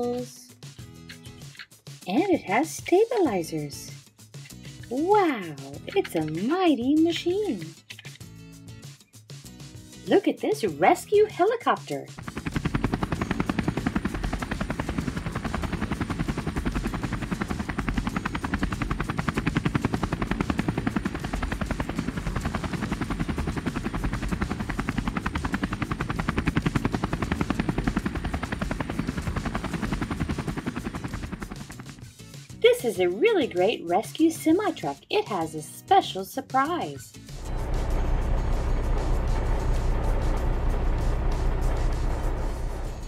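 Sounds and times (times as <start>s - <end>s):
helicopter rotor chopping: 1.4s - 8.2s, 10.1s - 35.0s, 37.3s - 43.0s.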